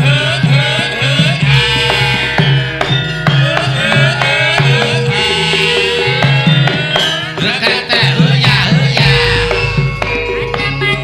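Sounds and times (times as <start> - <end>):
gliding melody: 0.0 - 11.0
hand drum strokes: 0.0 - 11.0.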